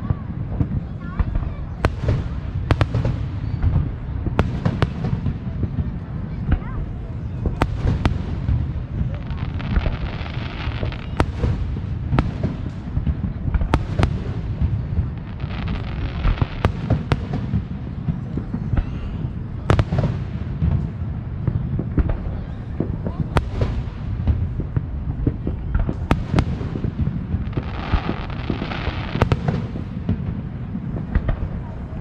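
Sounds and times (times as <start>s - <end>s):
fireworks bangs and pops: 0.0s - 32.0s
fireworks crackling: 0.0s - 32.0s.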